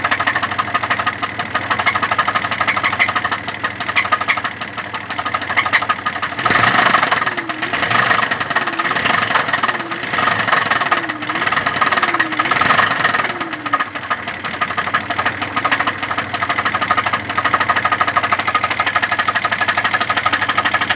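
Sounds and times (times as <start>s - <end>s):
engine running with rapid knocking: 0.0s - 20.9s.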